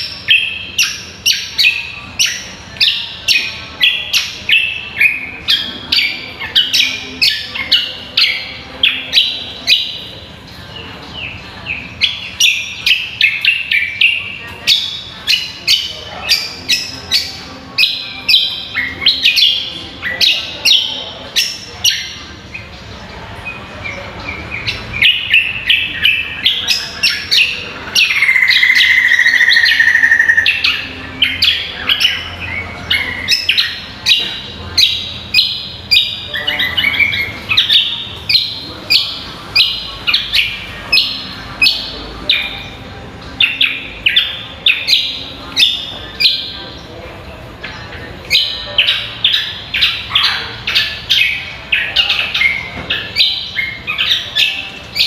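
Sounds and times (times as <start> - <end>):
bird chirping: 0.0 - 55.0.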